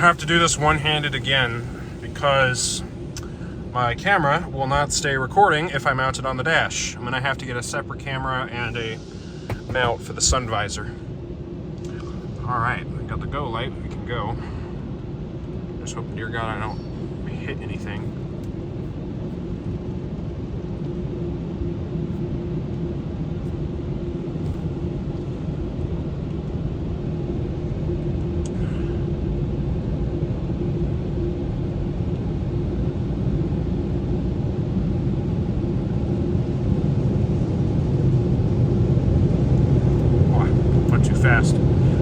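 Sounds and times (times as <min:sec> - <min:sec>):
low rumble inside car: 0:00.0 - 0:42.0.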